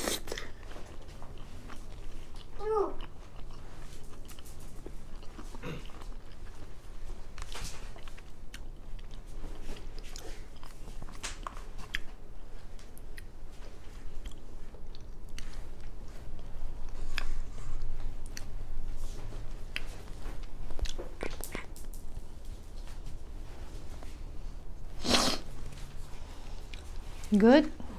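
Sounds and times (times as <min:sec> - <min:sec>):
person chewing food: 0:00.0 - 0:22.4, 0:25.0 - 0:27.3.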